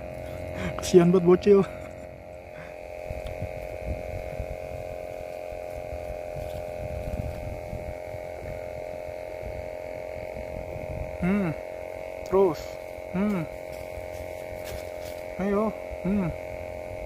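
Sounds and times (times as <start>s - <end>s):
hum of two held tones: 0.0s - 17.0s.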